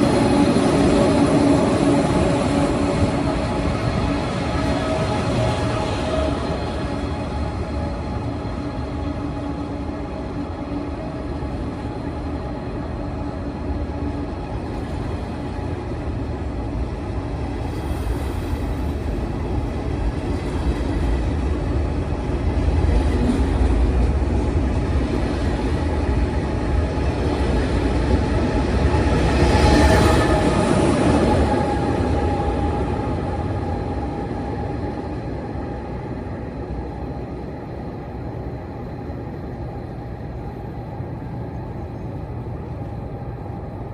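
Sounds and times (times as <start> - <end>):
train rumbling on track: 0.0 - 43.9.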